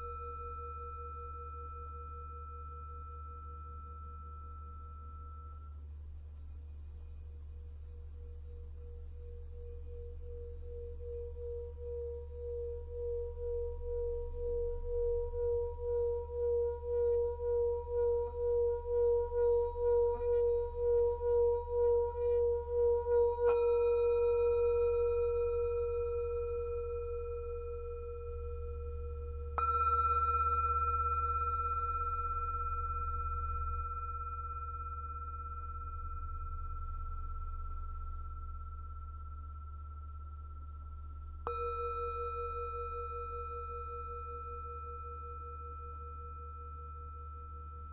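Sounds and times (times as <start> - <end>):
singing bowl pulsing tone: 0.0 - 47.9
singing bowl struck ringing: 8.2 - 47.9.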